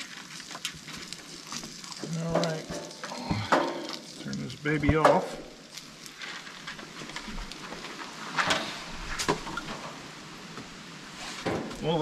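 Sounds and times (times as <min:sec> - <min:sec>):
gas grill hissing and crackling: 0:00.3 - 0:12.0.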